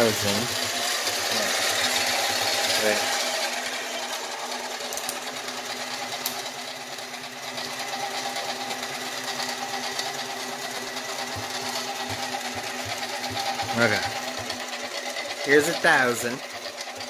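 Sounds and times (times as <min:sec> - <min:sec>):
metal lathe whining: 0:00.0 - 0:17.0.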